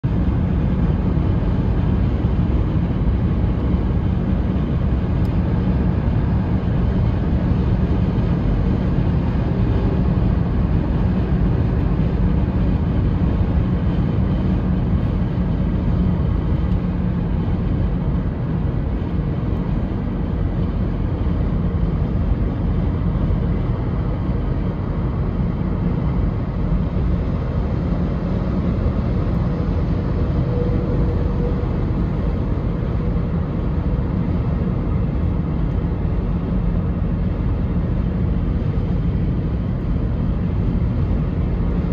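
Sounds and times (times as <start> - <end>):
tyres and engine rumble: 0.0 - 41.9.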